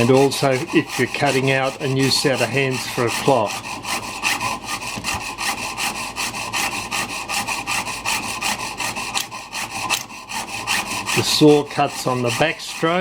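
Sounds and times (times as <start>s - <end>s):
saw cutting through metal plate: 0.0s - 13.0s.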